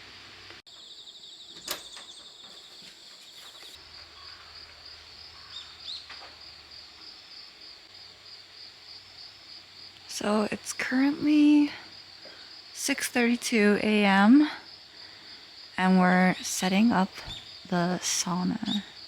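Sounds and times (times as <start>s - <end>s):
insects trilling: 0.2s - 19.0s.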